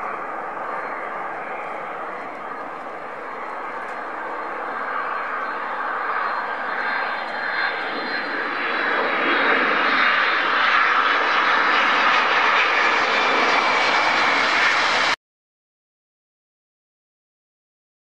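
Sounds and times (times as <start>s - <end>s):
high jet engine whine: 0.0s - 15.2s
jet airliner landing: 0.0s - 15.2s.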